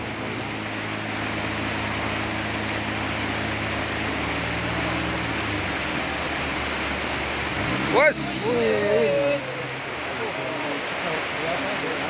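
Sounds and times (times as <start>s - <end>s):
diesel engine droning under load: 0.0s - 11.4s.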